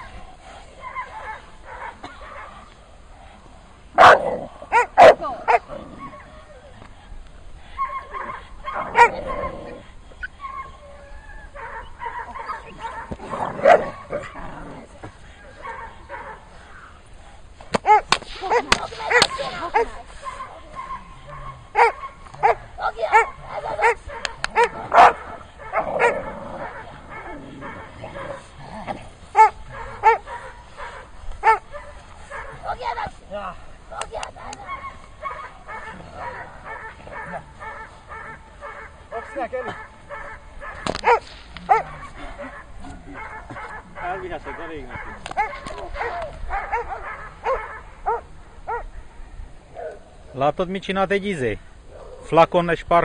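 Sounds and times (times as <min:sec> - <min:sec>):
young dogs barking and yipping: 0:00.0 - 0:02.8, 0:03.9 - 0:50.4.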